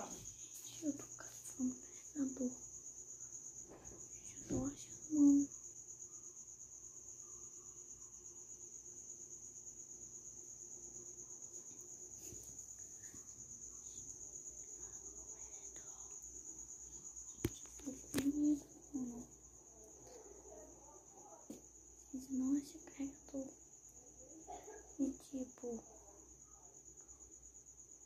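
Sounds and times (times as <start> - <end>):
cricket trilling: 0.0 - 28.0.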